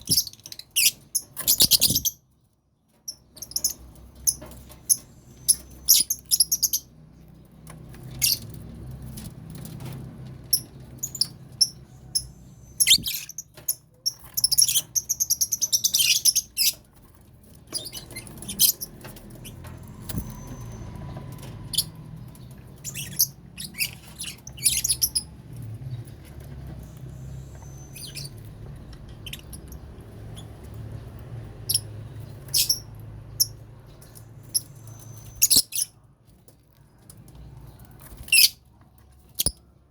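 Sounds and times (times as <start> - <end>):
lovebirds chirping: 0.0 - 2.3, 3.0 - 9.2, 10.5 - 36.0, 36.8 - 39.7.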